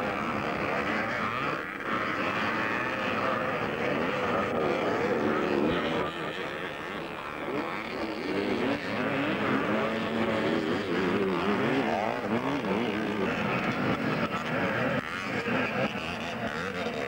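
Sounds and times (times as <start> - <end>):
motocross bikes racing: 0.0 - 17.0.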